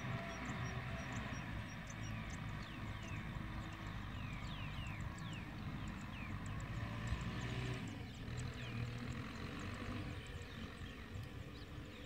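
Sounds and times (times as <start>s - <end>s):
birds chirping: 0.0s - 12.0s
distant tractor engine drone: 0.0s - 12.0s.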